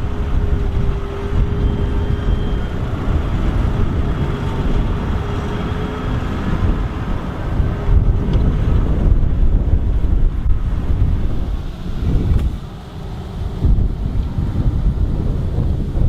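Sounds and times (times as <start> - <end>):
tractor engine running: 0.0 - 16.0
wind noise on microphone: 0.0 - 16.0.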